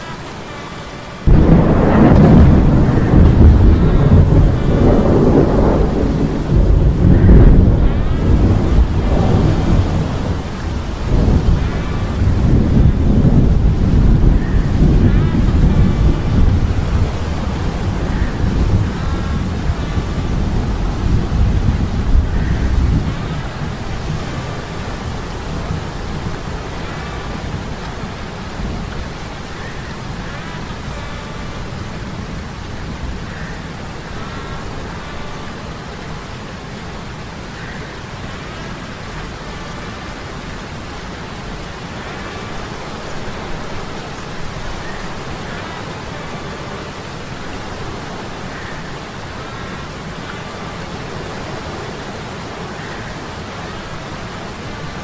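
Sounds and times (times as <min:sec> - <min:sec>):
rain and sea storm: 0:00.0 - 0:55.0.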